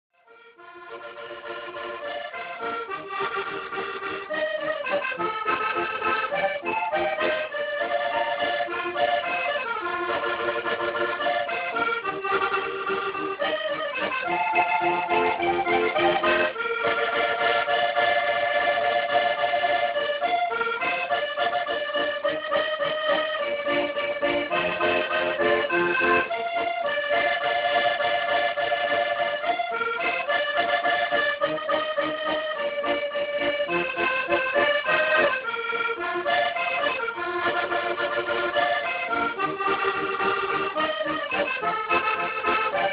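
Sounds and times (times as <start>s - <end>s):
accordion music: 0.2s - 42.9s.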